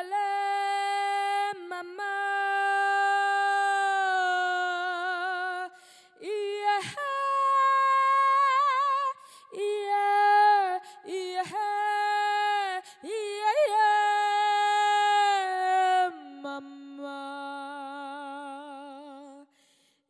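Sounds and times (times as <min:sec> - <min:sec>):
woman singing unaccompanied: 0:00.0 - 0:19.5.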